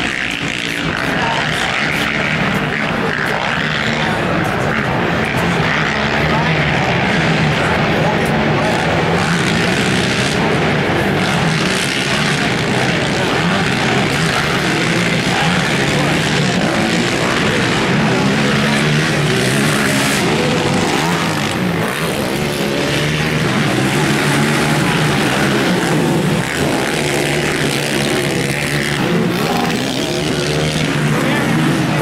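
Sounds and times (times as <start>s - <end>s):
quad engines revving: 0.0s - 32.0s.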